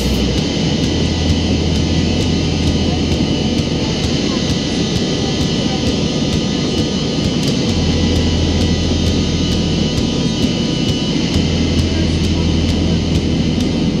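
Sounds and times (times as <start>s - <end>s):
airliner cabin engine roar: 0.0s - 14.0s
low drone: 0.0s - 14.0s.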